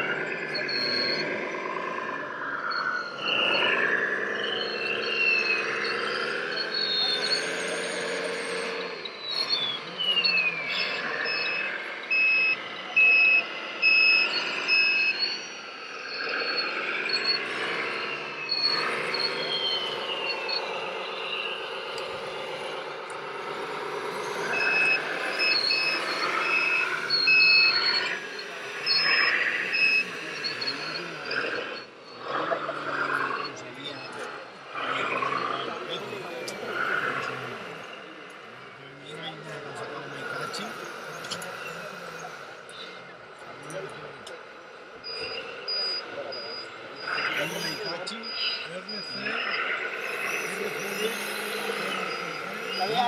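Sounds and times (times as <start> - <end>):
falling whine: 0.0 - 53.0
model motors running and whining: 0.0 - 53.0
reversing beeper high beeps: 0.0 - 53.0.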